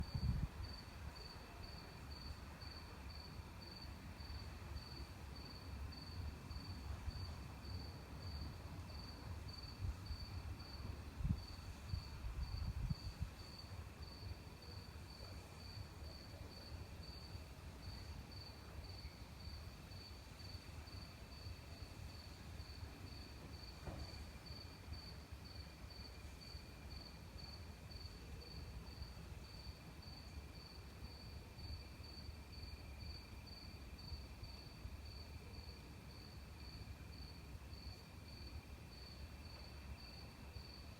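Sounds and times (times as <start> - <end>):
cricket chirping: 0.1 - 40.9.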